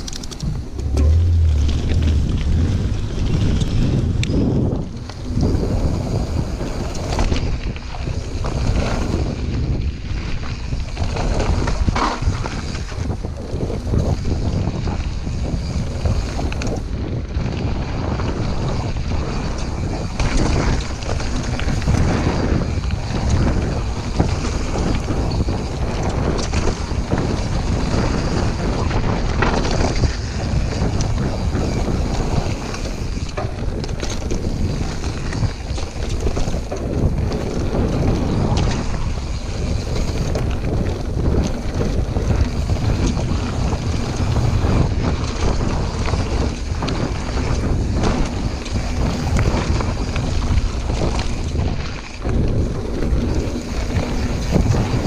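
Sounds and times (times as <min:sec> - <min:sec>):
tyres rolling over dirt and gravel: 0:00.0 - 0:55.0
wind on camera microphone: 0:00.0 - 0:55.0.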